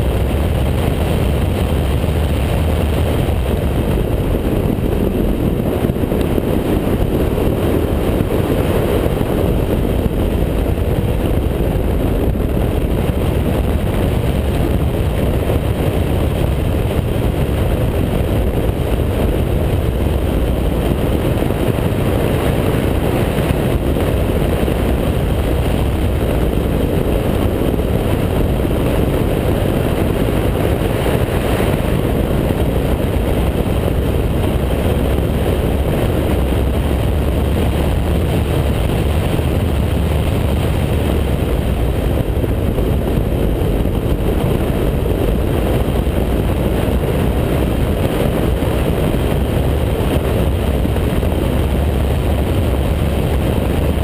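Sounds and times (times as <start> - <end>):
wind rushing over camera: 0.0 - 54.0.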